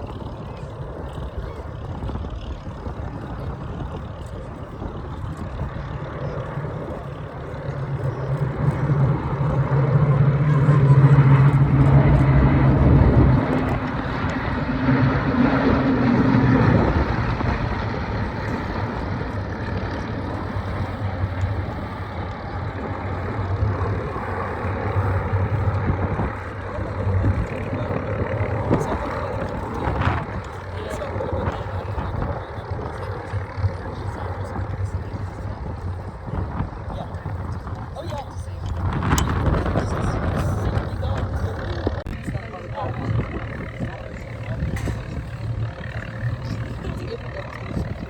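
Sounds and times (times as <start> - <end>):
propeller aircraft engines droning: 0.0 - 48.0.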